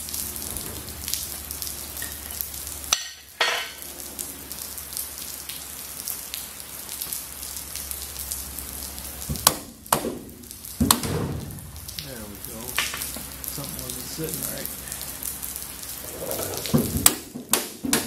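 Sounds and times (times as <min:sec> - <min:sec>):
crackling hiss: 0:00.0 - 0:17.8.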